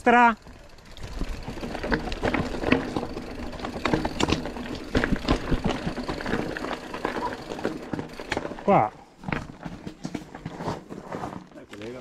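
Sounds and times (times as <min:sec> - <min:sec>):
bike rattling over rocks: 0:00.0 - 0:12.0.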